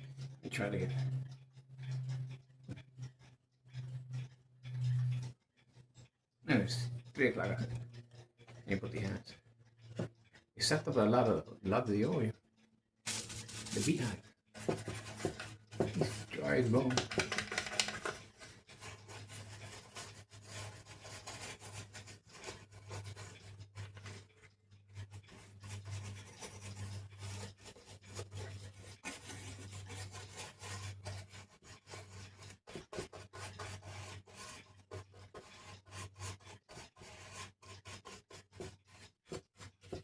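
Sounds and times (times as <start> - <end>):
rubbing and scraping clock parts: 0.0 - 40.0.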